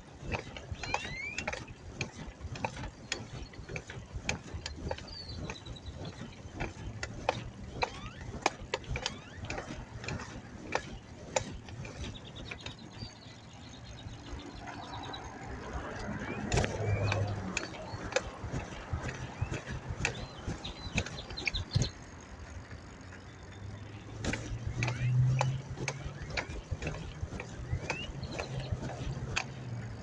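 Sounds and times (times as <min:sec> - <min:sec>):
bicycle freewheel ticking: 0:00.0 - 0:30.0.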